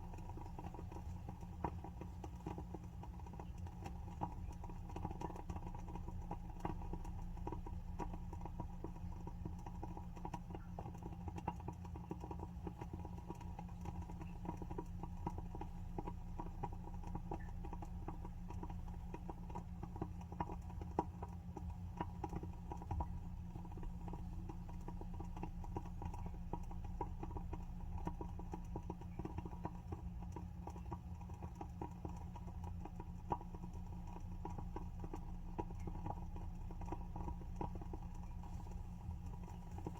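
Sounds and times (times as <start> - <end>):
steady low hum: 0.0 - 39.9
wooden candle wick crackling: 0.0 - 39.9.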